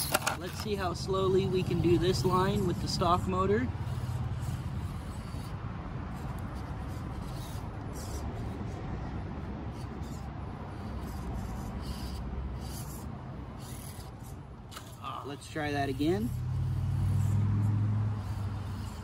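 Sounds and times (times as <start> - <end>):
tyres scraping on ground: 0.0 - 8.5, 9.7 - 17.4
motor whirring: 0.0 - 8.6, 9.7 - 19.0.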